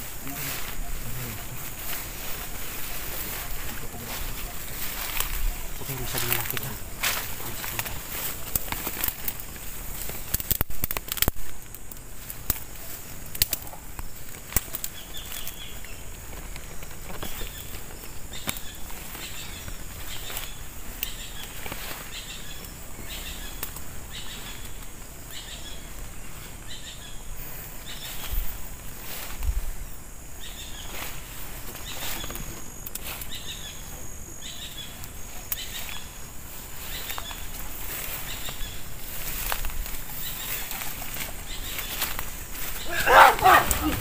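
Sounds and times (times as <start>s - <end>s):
footsteps rustling through undergrowth: 0.0s - 44.0s.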